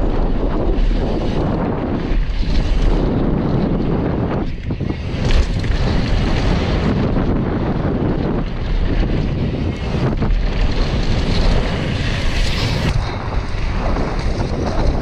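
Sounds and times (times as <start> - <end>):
bike tyre noise and rattle: 0.0 - 15.0
wind buffeting microphone: 0.0 - 15.0.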